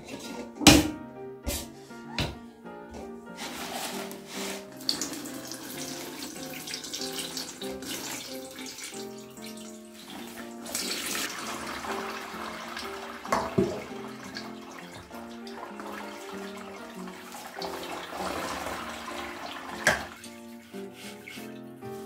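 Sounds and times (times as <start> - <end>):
background music: 0.0 - 22.0
liquid pouring and splashing: 3.4 - 22.0.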